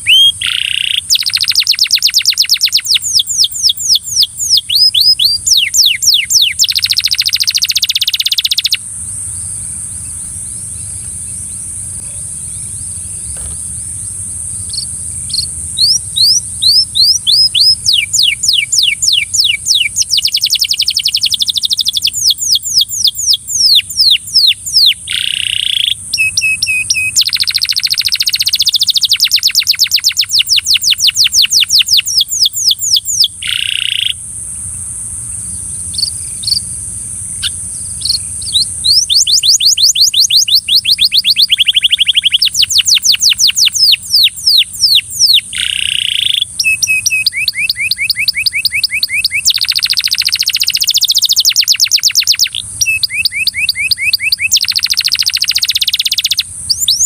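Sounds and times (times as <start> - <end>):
canary singing trills: 0.0 - 34.2, 35.5 - 57.0
steady high hiss: 0.0 - 57.0.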